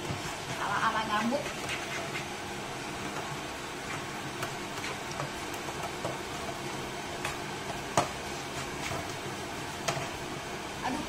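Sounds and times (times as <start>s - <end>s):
spatula scraping and tapping pan: 0.0s - 2.4s, 3.0s - 10.2s
noodles sizzling in a frying pan: 0.0s - 11.0s.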